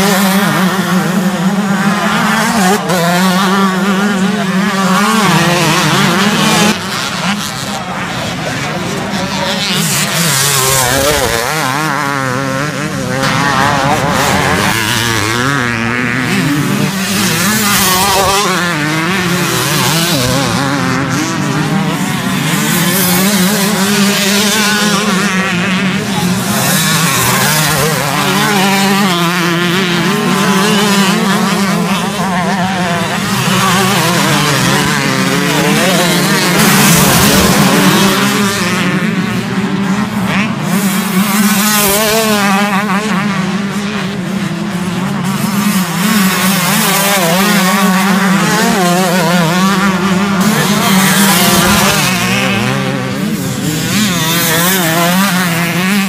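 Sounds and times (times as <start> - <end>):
motocross bikes revving: 0.0 - 56.0.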